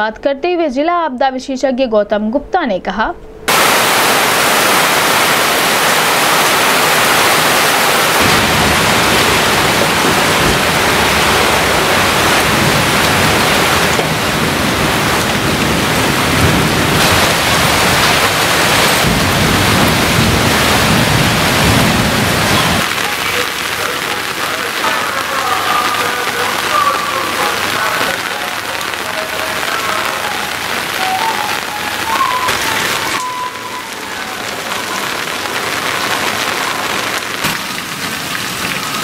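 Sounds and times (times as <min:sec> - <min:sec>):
heavy rain pouring: 0:03.5 - 0:39.0.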